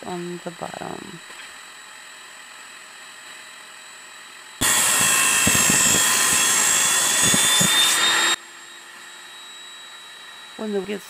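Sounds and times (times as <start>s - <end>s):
table saw cutting wood: 0.6s - 11.0s.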